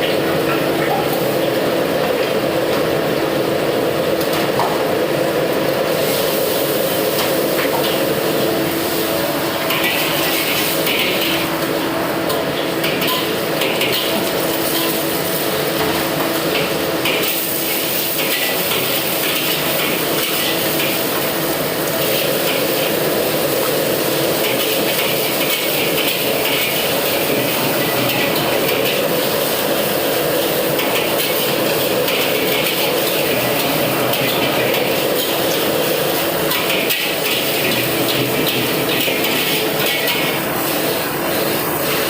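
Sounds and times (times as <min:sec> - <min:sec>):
food sizzling in a pan: 0:05.8 - 0:42.0.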